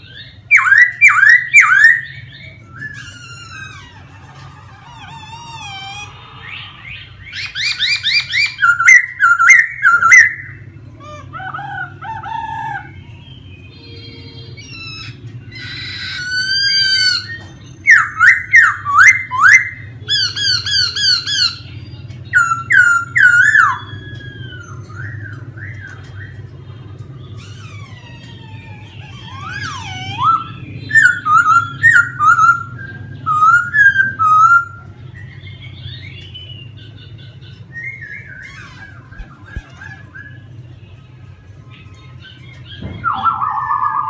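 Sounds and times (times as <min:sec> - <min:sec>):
bird singing whistled trills: 0:00.0 - 0:03.9, 0:05.9 - 0:10.7, 0:12.8 - 0:26.4, 0:29.1 - 0:40.6, 0:42.2 - 0:44.0.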